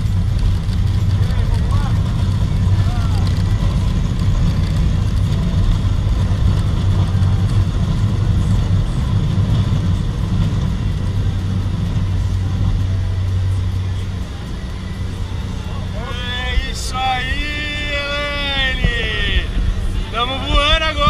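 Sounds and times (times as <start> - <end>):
plane engine drone: 0.0 - 21.0.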